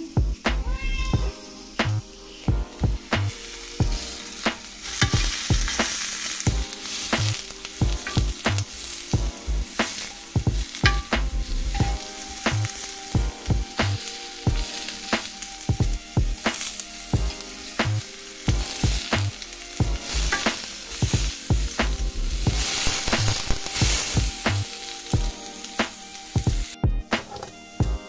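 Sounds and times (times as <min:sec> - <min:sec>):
vegetables sizzling in grill pan: 0:00.0 - 0:27.4
oil popping: 0:01.7 - 0:27.6.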